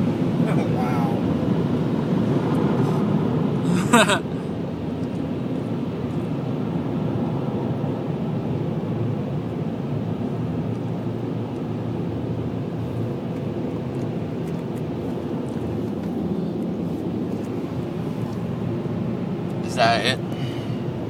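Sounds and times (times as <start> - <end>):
car wash machinery running: 0.0 - 21.0.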